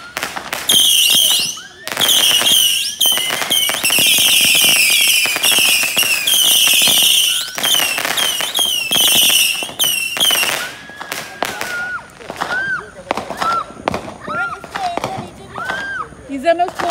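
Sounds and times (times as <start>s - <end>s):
firework crackling pops: 0.0s - 16.9s
firework whistles: 0.0s - 16.9s.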